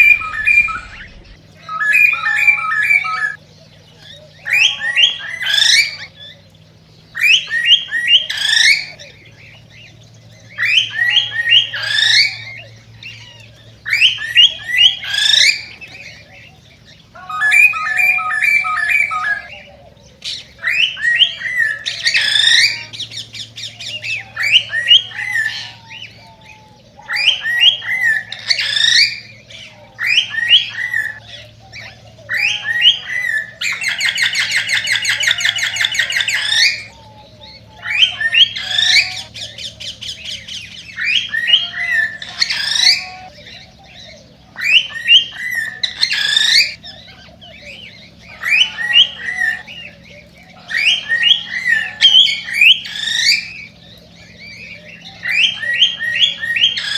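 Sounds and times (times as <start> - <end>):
cockatiel whistling and chirping: 0.0 - 6.4, 7.1 - 16.4, 17.2 - 56.9
fast buzzing chatter: 0.0 - 56.9.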